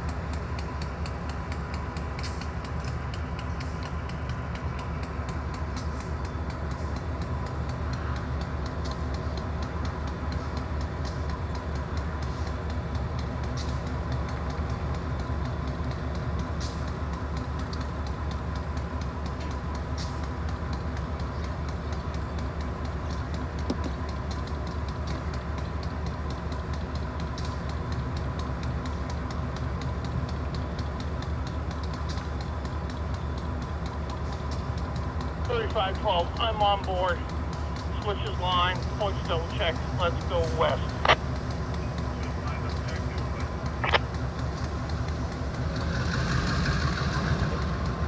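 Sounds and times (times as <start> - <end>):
freight train rumble: 0.0 - 48.0.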